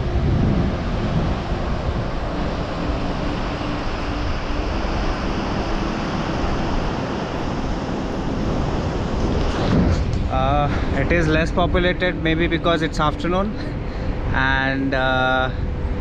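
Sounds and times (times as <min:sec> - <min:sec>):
sea surf on a beach: 0:00.0 - 0:16.0
wind rushing over microphone: 0:00.0 - 0:16.0.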